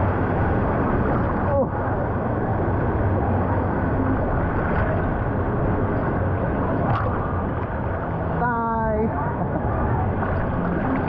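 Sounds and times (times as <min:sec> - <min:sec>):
churning water rushing: 0:00.0 - 0:11.0.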